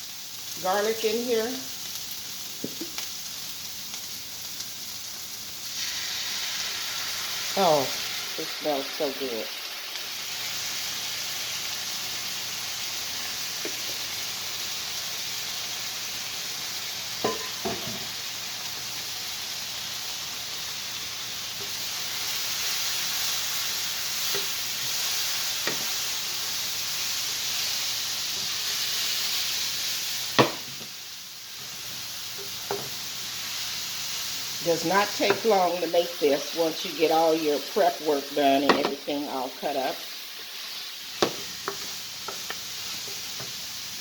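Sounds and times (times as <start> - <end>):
vegetables sizzling in oil: 0.0 - 44.0.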